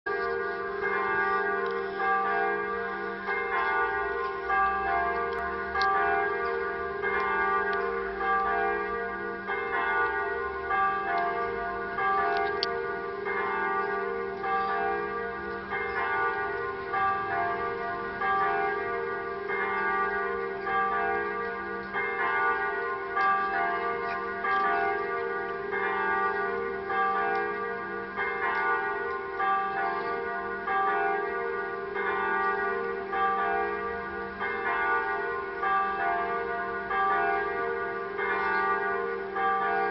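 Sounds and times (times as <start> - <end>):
electronic church bells pealing: 0.1 - 39.9.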